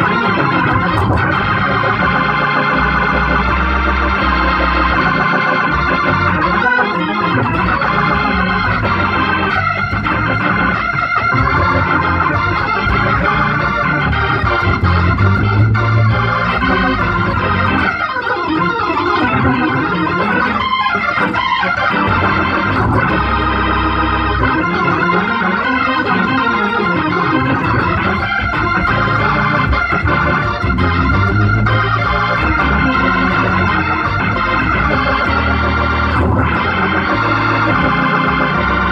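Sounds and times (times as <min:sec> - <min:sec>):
low bass notes: 0:00.0 - 0:38.9
organ playing gospel chords: 0:00.0 - 0:38.9.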